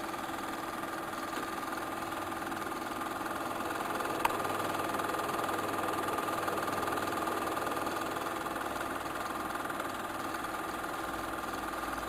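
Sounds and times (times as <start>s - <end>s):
film projector clatter: 0.0s - 12.0s.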